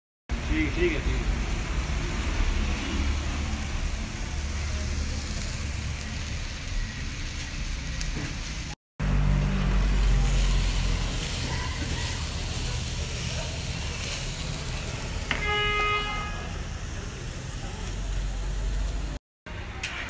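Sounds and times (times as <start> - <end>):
low traffic rumble: 0.3 - 20.0.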